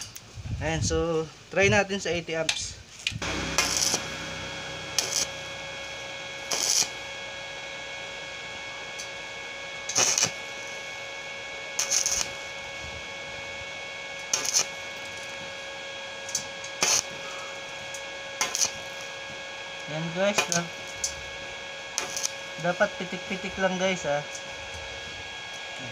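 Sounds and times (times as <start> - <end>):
electrical hum: 0.0 - 25.9
welding arc crackling: 3.2 - 25.9.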